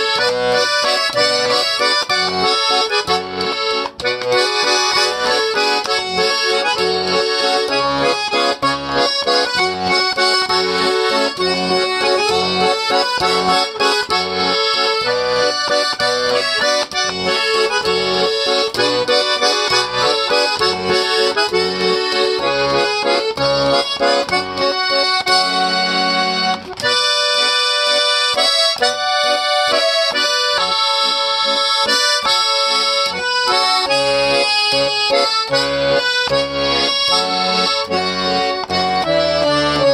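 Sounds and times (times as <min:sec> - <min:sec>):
button accordion playing lively tune: 0:00.0 - 0:39.9.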